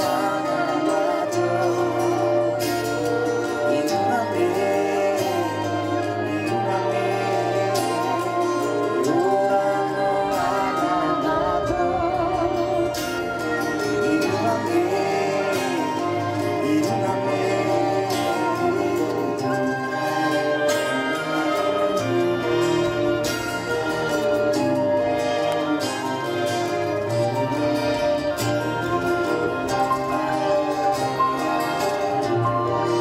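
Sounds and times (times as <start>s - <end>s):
orchestra strings and bass: 0.0s - 33.0s
person singing with vibrato: 0.0s - 33.0s.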